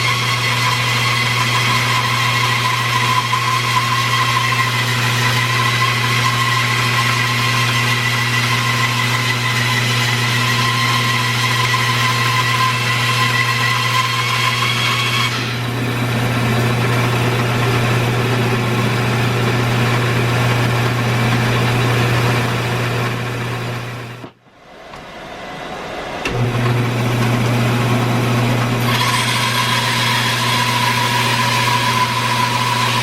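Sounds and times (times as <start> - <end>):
bandsaw motor hum: 0.0 - 33.0.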